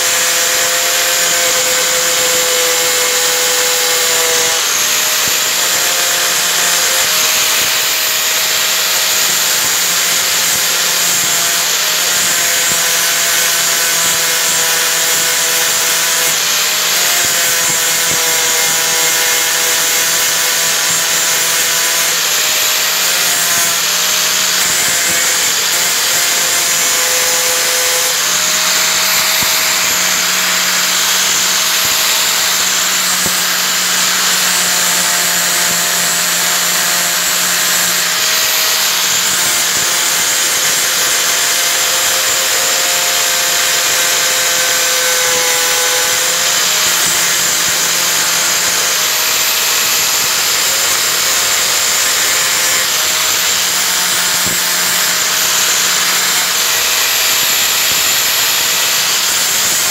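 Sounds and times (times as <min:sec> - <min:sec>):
angle grinder grinding: 0:00.0 - 0:59.9.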